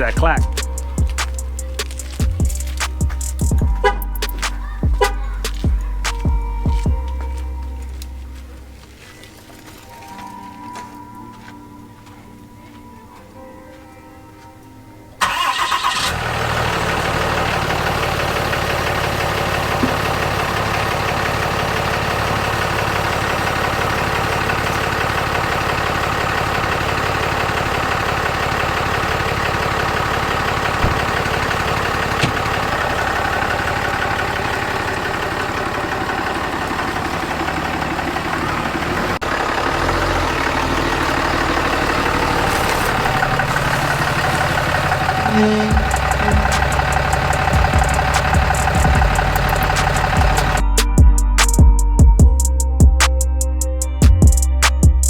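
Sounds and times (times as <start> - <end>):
diesel engine idling: 0.0 - 9.9, 15.2 - 55.0.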